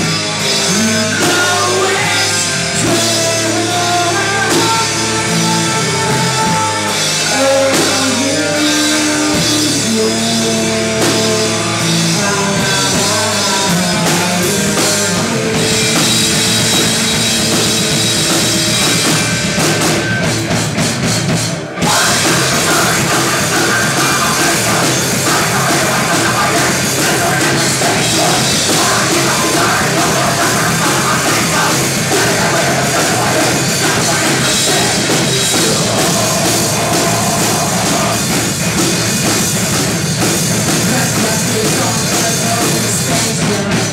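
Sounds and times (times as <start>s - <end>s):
bass guitar: 0.0s - 43.9s
distorted guitars: 0.0s - 43.9s
heavy metal band playing: 0.0s - 43.9s
pounding drum kit: 0.0s - 43.9s
person singing: 0.6s - 19.1s, 21.8s - 38.6s, 40.7s - 43.9s.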